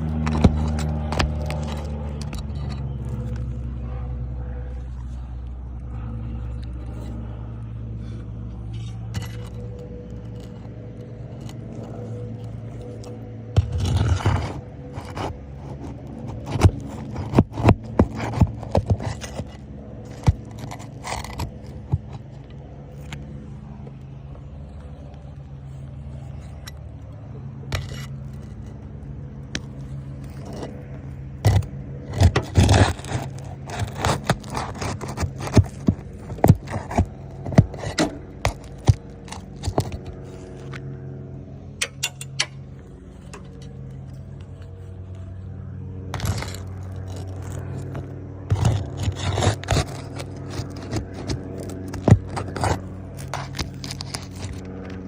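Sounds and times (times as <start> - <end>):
shingles scraping and clicking: 0.0 - 3.8, 4.7 - 45.3, 46.0 - 55.0
steady low hum: 0.0 - 55.0.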